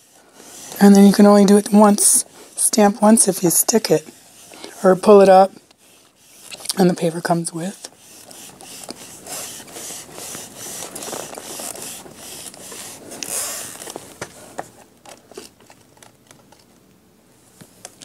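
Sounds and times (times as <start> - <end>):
hand rubbing on acrylic: 0.0 - 14.6.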